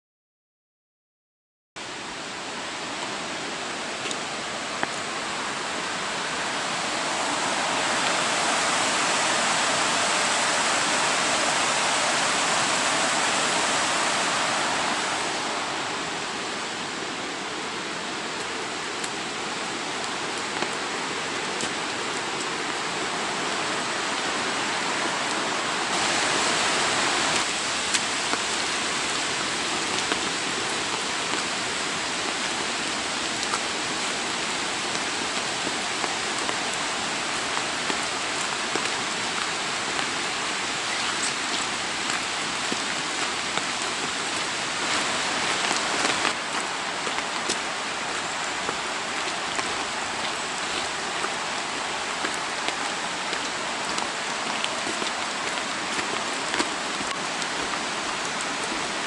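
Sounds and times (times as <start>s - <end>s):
falling rain: 1.8s - 59.0s
mountain stream rushing: 1.8s - 59.0s.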